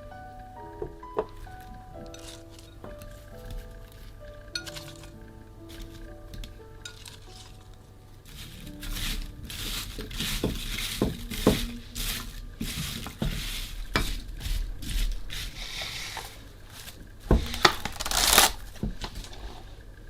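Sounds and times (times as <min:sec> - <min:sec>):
food scraping and stirring: 0:00.6 - 0:19.8.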